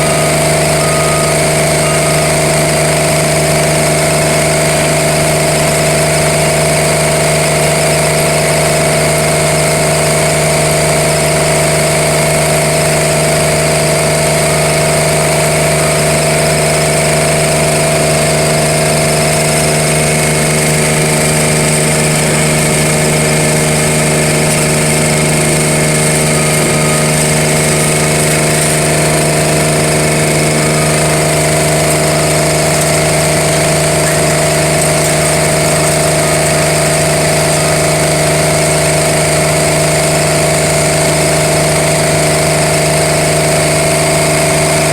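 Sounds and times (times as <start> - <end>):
machine humming and whining: 0.0 - 44.9.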